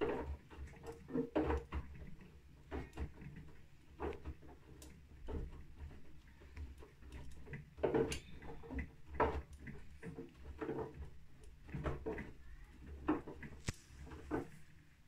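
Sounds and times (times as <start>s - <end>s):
laundry tumbling and sloshing: 0.0s - 15.0s
washing machine motor hum: 0.0s - 15.0s.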